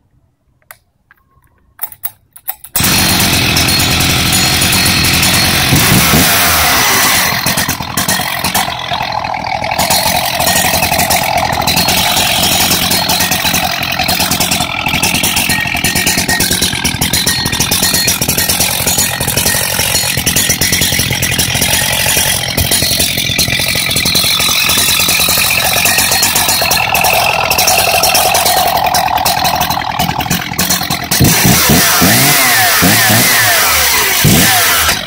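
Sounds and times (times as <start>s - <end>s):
starter cord pulls: 0.7s - 35.0s
chainsaw engine running: 2.8s - 35.0s.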